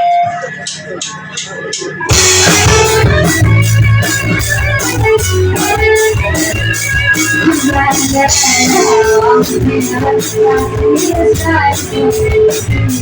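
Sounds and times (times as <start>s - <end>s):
live rock band playing: 2.1s - 13.0s.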